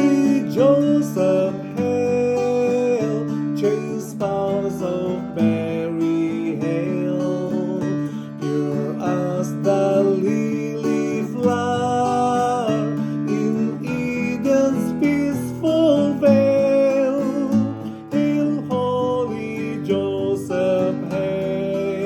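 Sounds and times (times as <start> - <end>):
person singing slow melody: 0.0 - 22.0
strummed acoustic guitar: 0.0 - 22.0.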